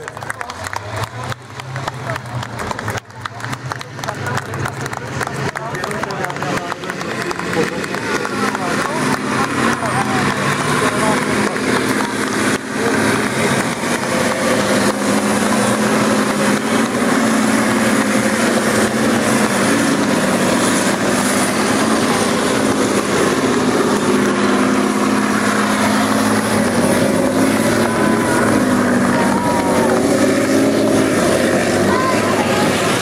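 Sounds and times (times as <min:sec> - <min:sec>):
tanks driving past: 0:00.0 - 0:33.0.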